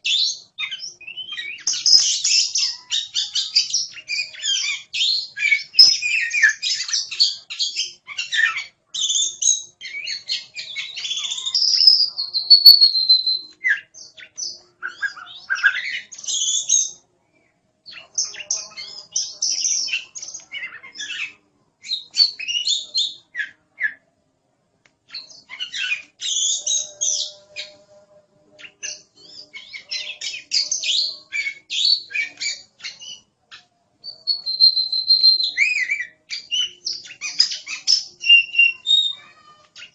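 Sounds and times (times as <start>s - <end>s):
bird singing chirps and trills: 0.0s - 17.0s, 17.8s - 24.0s, 25.1s - 39.9s.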